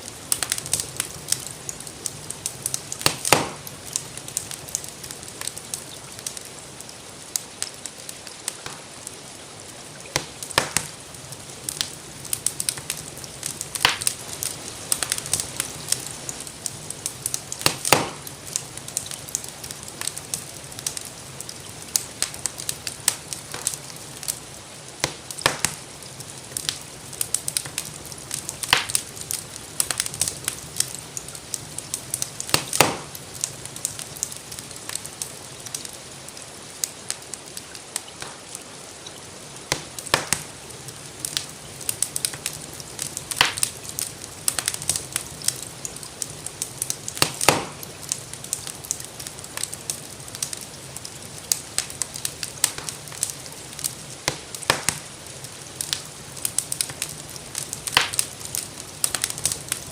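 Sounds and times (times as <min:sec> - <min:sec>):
gentle rain hissing: 0:00.0 - 0:59.9
wood fire crackling: 0:00.0 - 0:59.9.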